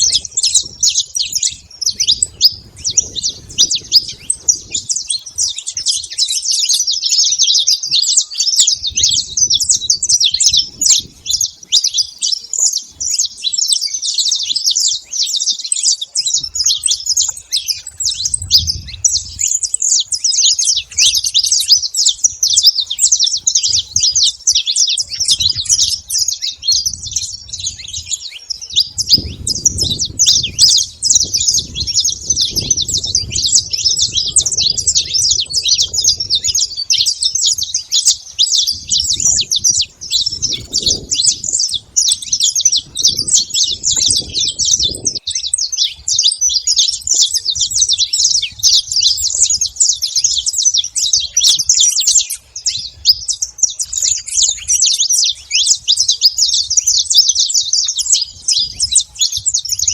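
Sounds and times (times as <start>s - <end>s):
finches chirping: 0.0s - 59.9s.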